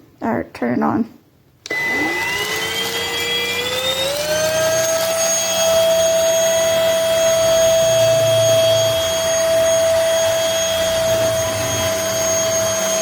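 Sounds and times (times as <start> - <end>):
stick vacuum motor whine: 1.6 - 13.0.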